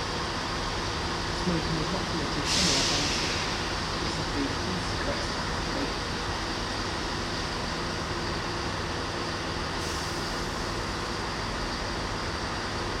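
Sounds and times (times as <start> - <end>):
diesel locomotive engines droning: 0.0 - 13.0.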